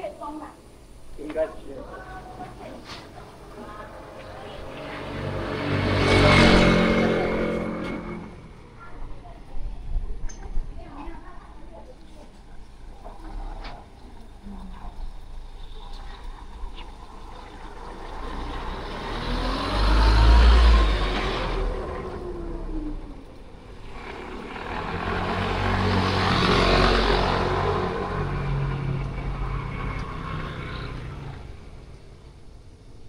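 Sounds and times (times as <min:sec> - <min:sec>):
vehicles driving past: 0:00.0 - 0:33.0.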